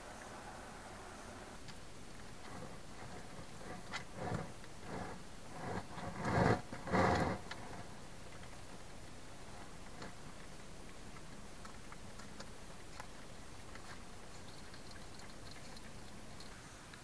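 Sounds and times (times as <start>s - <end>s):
hedgehog scraping and rustling: 1.7s - 16.8s.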